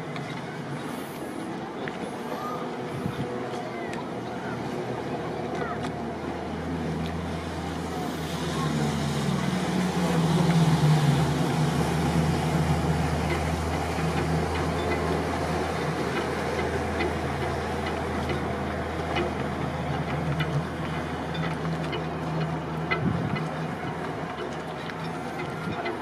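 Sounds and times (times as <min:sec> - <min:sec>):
boat engines humming: 0:00.0 - 0:26.0.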